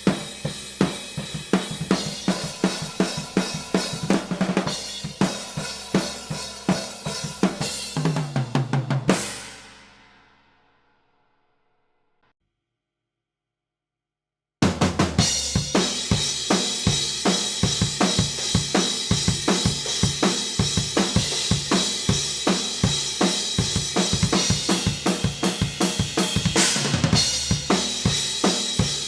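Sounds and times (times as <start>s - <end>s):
acoustic drum kit fast beat: 0.0s - 10.2s, 14.6s - 29.0s.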